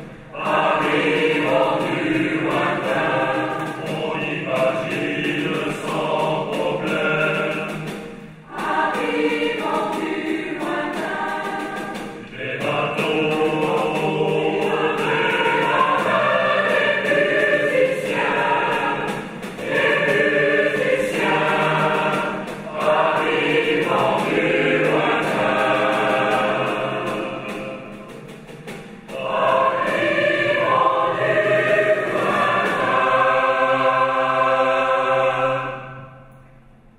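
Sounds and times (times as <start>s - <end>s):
string orchestra: 0.0s - 36.3s
mixed choir singing: 0.0s - 36.4s.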